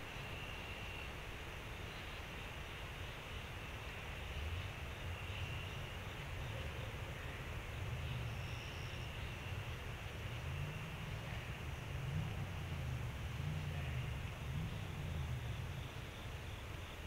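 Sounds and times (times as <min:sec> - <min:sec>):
constant low rumble: 0:00.0 - 0:17.0
insects trilling: 0:00.0 - 0:17.0.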